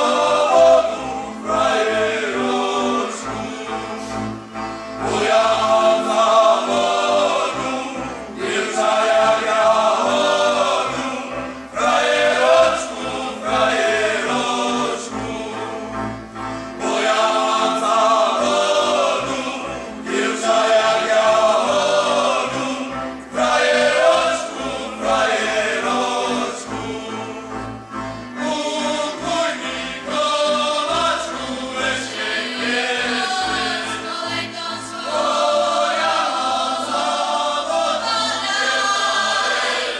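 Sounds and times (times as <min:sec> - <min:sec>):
choir singing folk song: 0:00.0 - 0:39.9.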